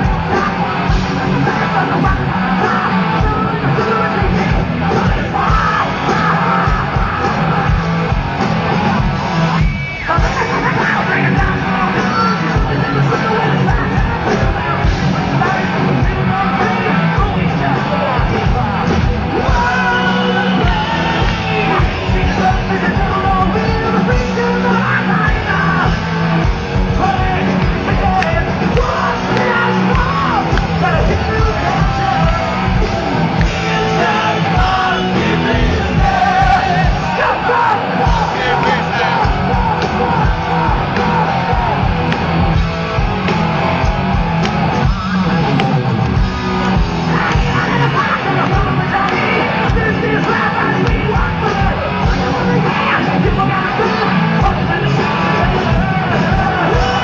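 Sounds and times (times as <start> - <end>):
man yelling and singing: 0.0 - 7.8, 10.0 - 42.1, 47.0 - 57.0
live hard rock band: 0.0 - 57.0.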